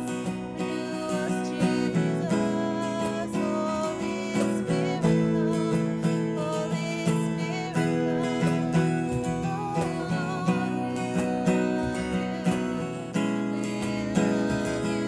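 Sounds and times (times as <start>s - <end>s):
held chords: 0.0s - 15.0s
strummed acoustic guitar: 0.0s - 15.0s.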